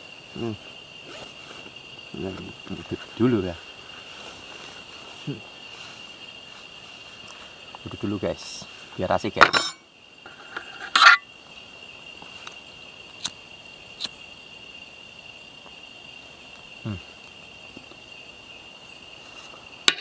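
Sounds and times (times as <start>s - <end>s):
crickets and cicadas trilling: 0.0s - 20.0s.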